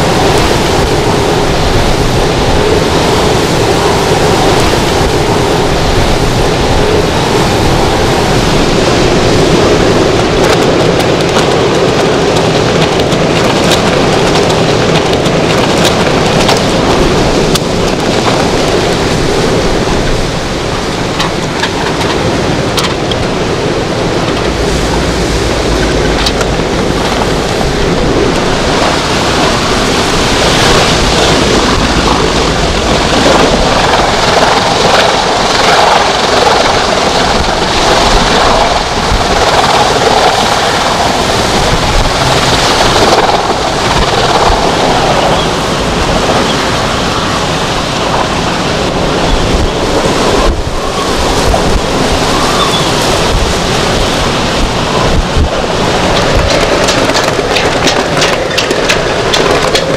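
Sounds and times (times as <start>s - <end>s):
strong wind buffeting microphone: 0.0s - 59.9s.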